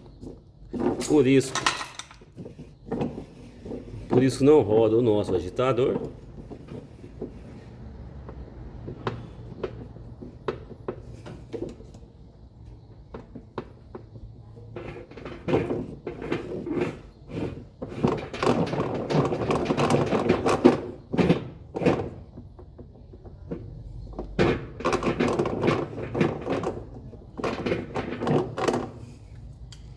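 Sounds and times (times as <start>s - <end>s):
washing machine parts clattering: 0.2s - 29.4s.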